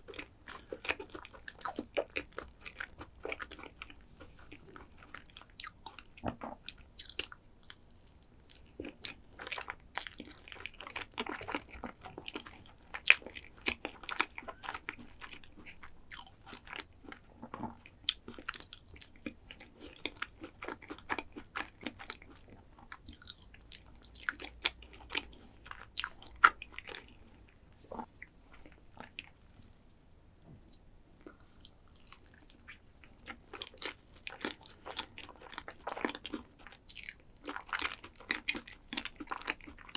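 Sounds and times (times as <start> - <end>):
chewing: 0.1 - 29.7, 30.7 - 39.9.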